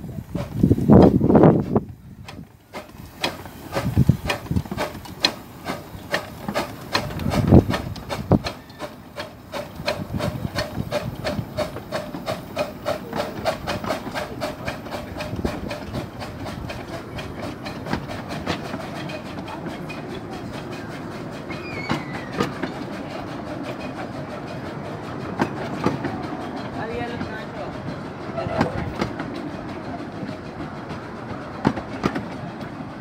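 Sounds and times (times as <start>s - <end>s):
steam locomotive exhaust chuffs: 0.0s - 33.0s
wheels clicking over rail joints: 0.0s - 33.0s.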